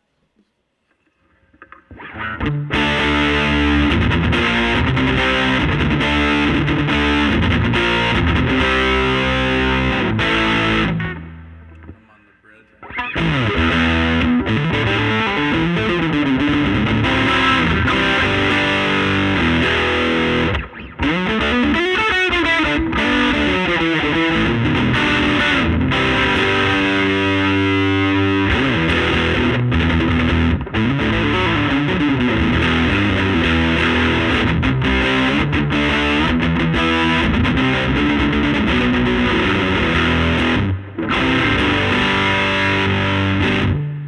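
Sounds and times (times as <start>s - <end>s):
distorted electric guitar: 1.1s - 44.0s.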